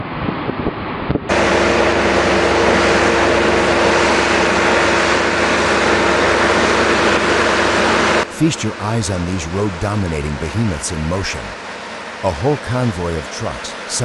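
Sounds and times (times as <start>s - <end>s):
heavy truck engine and road noise: 0.7s - 14.0s.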